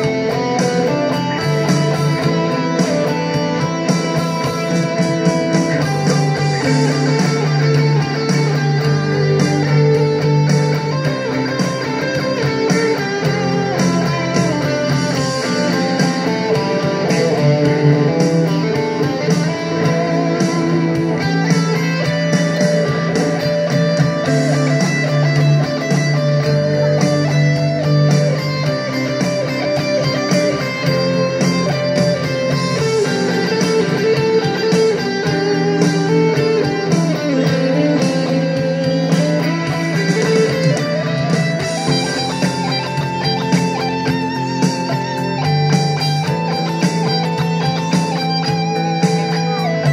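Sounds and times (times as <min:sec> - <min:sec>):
electric guitar lead lines: 0:00.0 - 0:49.9
steady beat: 0:00.0 - 0:49.9.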